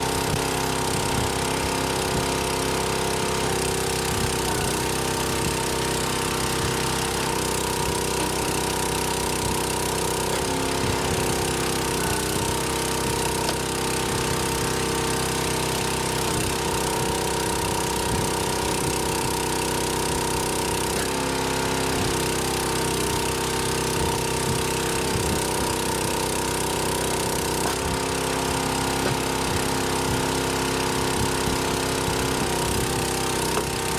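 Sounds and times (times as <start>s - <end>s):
wood splitter engine running: 0.0s - 33.9s.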